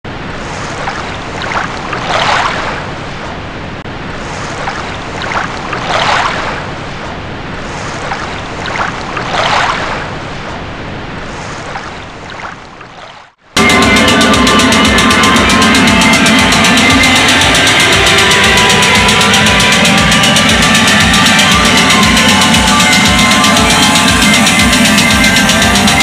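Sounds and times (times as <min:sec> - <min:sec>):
waves breaking: 0:00.1 - 0:26.0.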